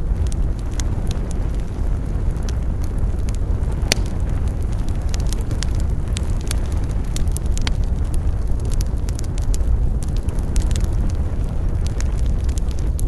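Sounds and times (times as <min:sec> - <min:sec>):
campfire crackling and popping: 0:00.0 - 0:13.0
low rumble: 0:00.0 - 0:13.0.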